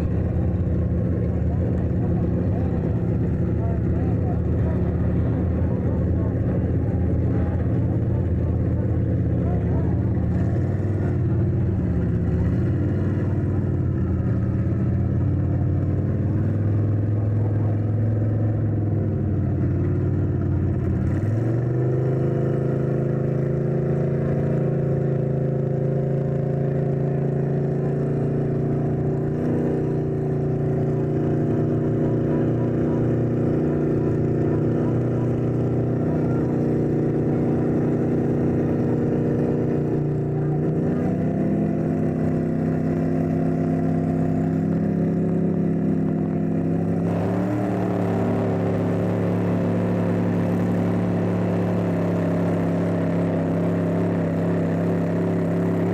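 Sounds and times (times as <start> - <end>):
truck engines revving under load: 0.0 - 55.9.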